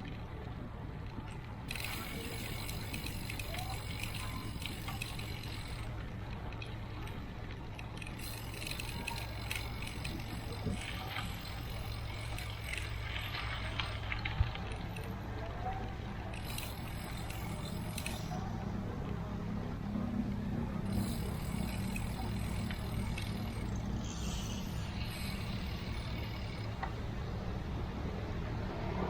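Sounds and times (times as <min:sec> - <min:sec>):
wind and tyre rumble: 0:00.0 - 0:29.0
bicycle freewheel ticking: 0:00.9 - 0:18.5, 0:20.8 - 0:27.5.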